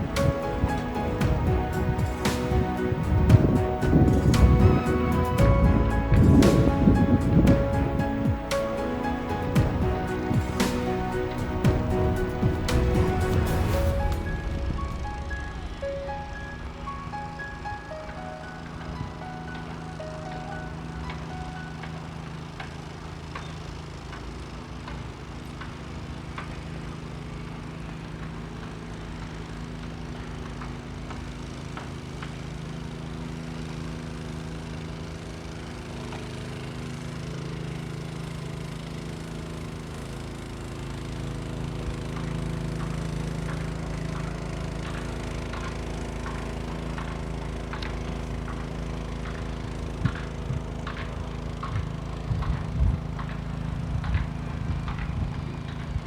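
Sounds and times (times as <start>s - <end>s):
engine hum: 0.0s - 24.8s, 35.8s - 56.0s.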